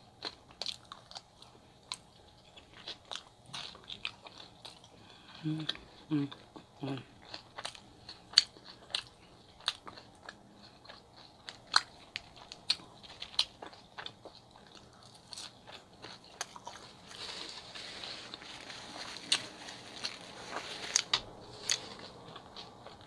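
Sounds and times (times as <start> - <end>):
food being bitten and chewed: 0.0 - 23.0.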